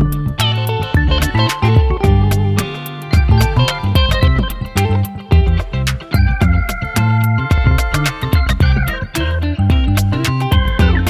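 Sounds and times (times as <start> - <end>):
upbeat music with plucked guitar: 0.0 - 11.0.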